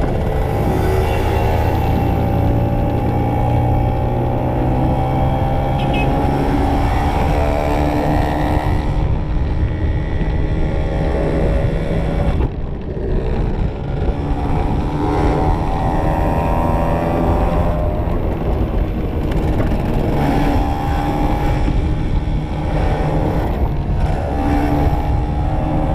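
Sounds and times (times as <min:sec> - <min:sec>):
two-stroke motorcycle engine accelerating: 0:00.0 - 0:25.9.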